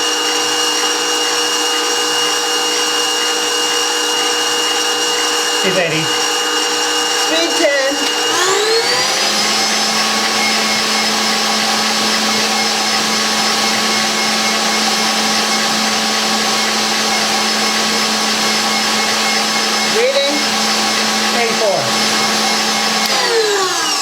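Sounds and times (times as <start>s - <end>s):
stand mixer motor whine: 0.0s - 24.0s.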